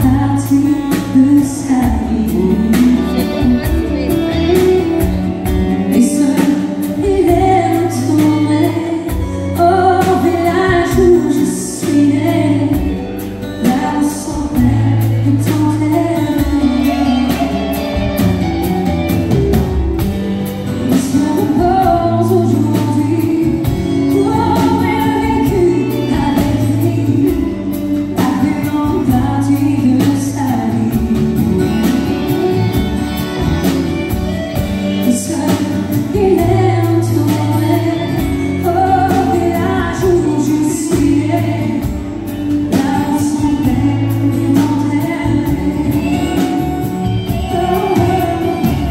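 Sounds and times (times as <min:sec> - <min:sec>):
woman singing: 0:00.0 - 0:19.8, 0:20.4 - 0:48.9
bass guitar: 0:00.0 - 0:48.9
drums with steady beat: 0:00.0 - 0:48.9
electric and acoustic guitars: 0:00.0 - 0:48.9.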